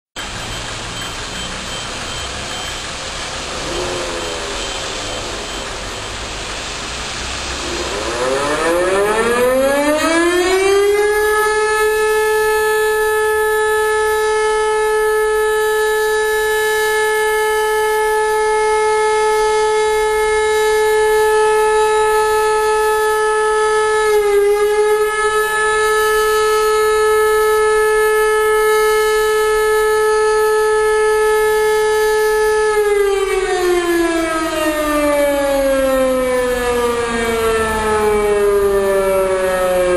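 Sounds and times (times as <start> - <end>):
siren howling: 0.2 - 39.9.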